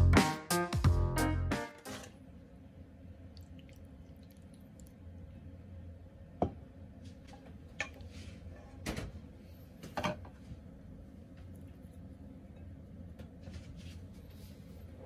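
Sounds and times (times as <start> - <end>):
steady low hum: 2.1 - 15.0.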